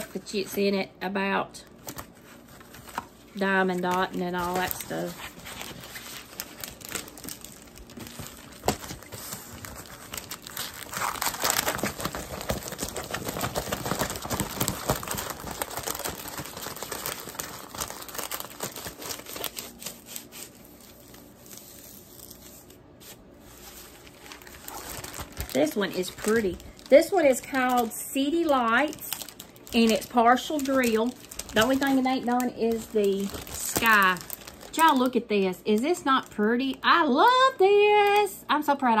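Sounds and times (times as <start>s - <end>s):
canvas sheet crinkling and rustling: 1.8s - 35.1s.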